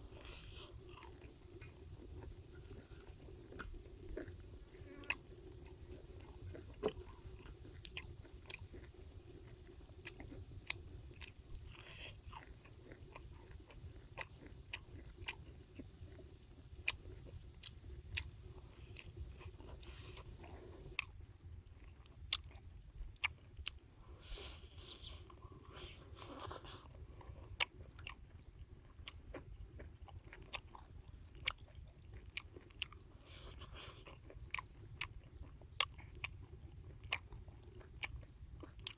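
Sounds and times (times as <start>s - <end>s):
person chewing crispy food: 0.0s - 38.9s.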